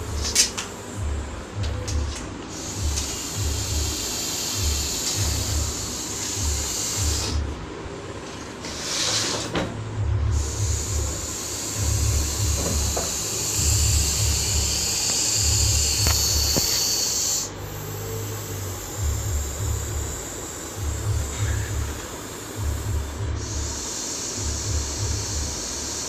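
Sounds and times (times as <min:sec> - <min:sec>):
snake hissing: 0:00.0 - 0:01.9, 0:02.5 - 0:08.0, 0:08.7 - 0:09.5, 0:10.3 - 0:26.0
low rumbling pulses: 0:00.0 - 0:26.0.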